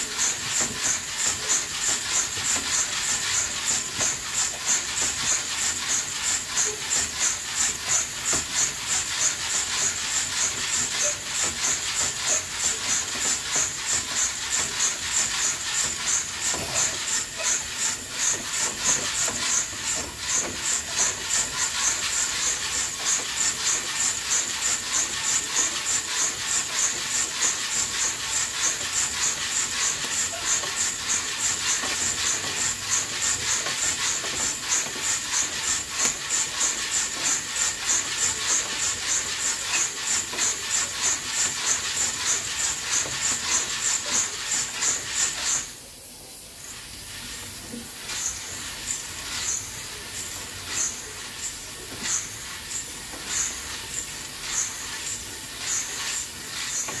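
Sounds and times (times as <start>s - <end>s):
coffee beans sizzling: 0.0s - 57.0s
roaster swishing: 0.0s - 57.0s.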